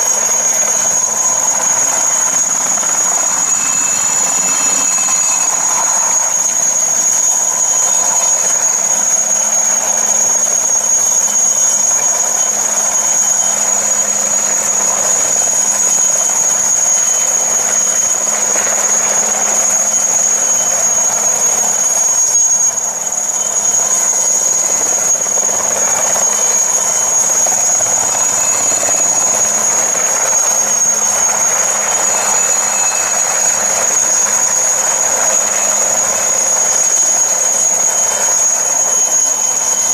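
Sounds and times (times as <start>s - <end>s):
helicopter rotor rush: 0.0s - 39.9s
helicopter turbine whine: 0.0s - 39.9s.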